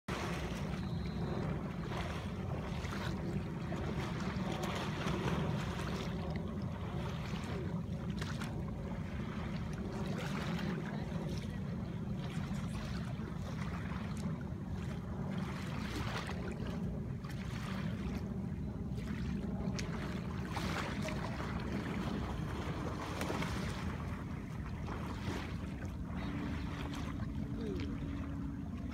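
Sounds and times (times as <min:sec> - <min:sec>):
water sloshing and splashing: 0:00.1 - 0:28.9
wind buffeting microphone: 0:00.1 - 0:28.9.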